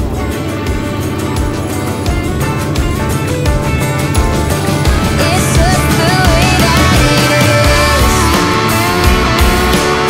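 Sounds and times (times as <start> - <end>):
rock music with guitar lead: 0.0 - 10.0.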